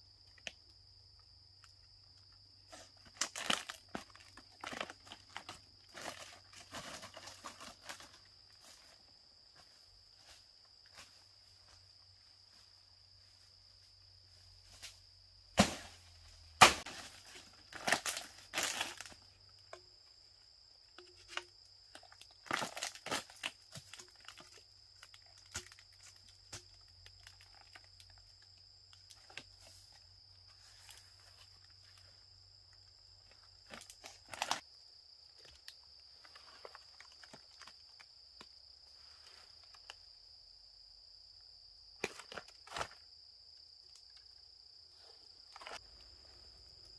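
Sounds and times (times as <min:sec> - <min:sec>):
high insect drone: 0:00.0 - 0:46.9.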